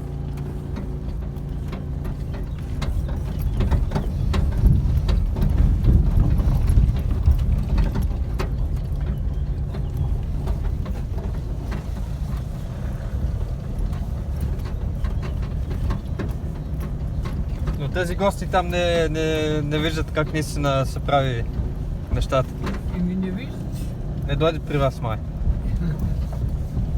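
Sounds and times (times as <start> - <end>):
vehicle rumble over rough ground: 0.0 - 26.9
loose parts rattling and knocking: 0.1 - 26.9.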